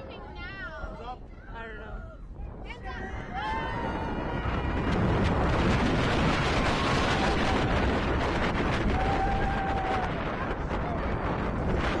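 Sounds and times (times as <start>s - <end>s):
wind rushing over microphone: 0.0s - 12.0s
roller coaster car rumble: 2.2s - 12.0s.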